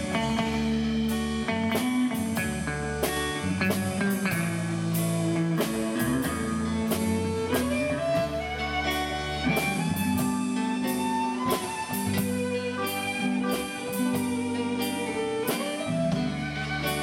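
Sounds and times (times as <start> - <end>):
electric bass: 0.0 - 17.0
electric guitar lead: 0.0 - 17.0
steady drum beat: 0.0 - 17.0.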